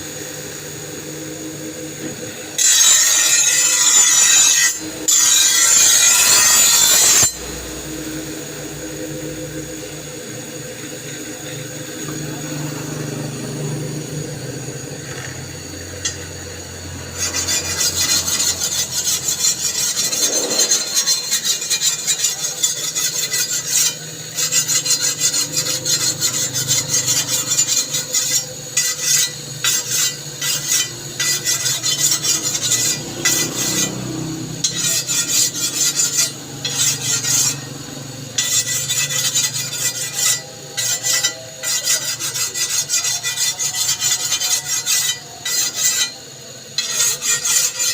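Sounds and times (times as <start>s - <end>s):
file rasping on steel blade: 1.4s - 47.9s.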